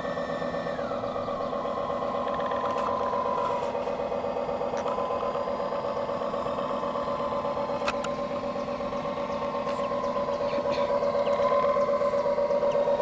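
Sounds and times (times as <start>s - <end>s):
model boat motor whine: 0.0s - 13.0s.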